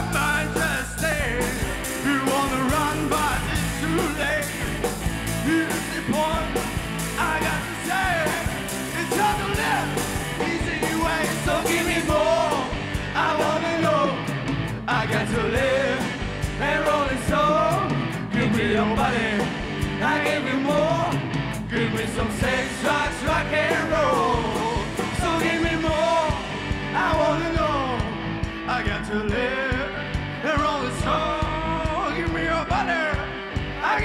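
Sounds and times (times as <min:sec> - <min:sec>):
rock and roll song with singer: 0:00.0 - 0:34.0.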